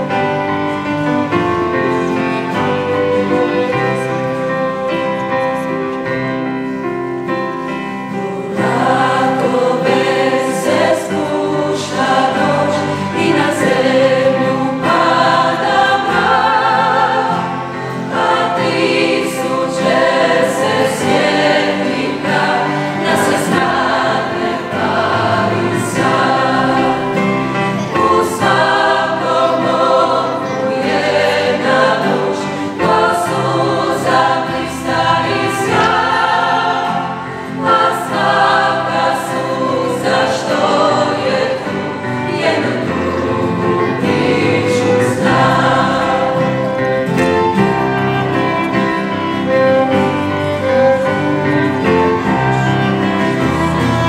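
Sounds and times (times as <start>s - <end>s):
choir singing in harmony: 0.0s - 54.0s
guitar: 0.0s - 54.0s
violins: 0.0s - 54.0s.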